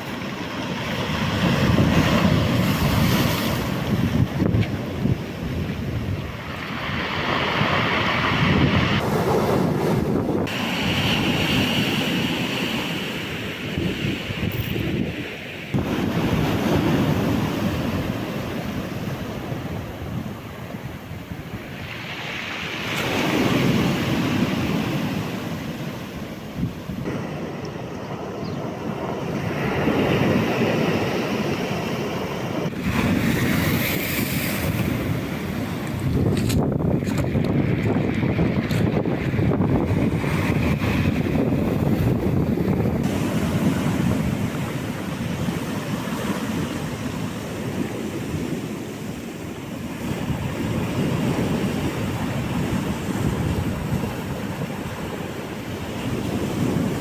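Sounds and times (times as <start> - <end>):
sea surf breaking: 0.0 - 57.0
wind buffeting microphone: 0.0 - 57.0.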